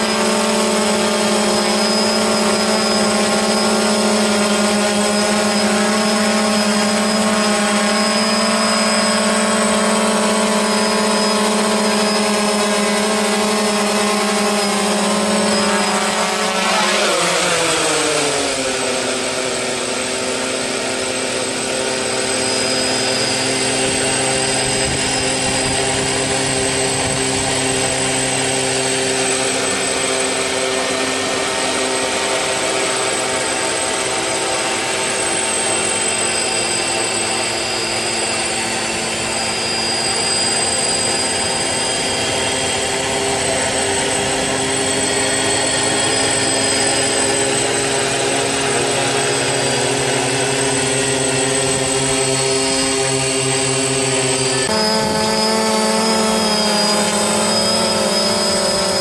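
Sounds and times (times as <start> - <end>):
high electronic whistle: 0.0 - 20.5, 21.1 - 59.0
drone propellers whining: 0.0 - 59.0.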